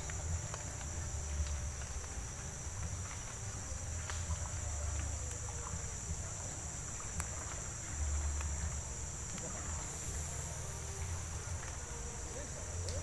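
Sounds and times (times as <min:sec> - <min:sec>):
high-pitched insect chorus: 0:00.0 - 0:13.0
wind rumbling on microphone: 0:00.0 - 0:13.0.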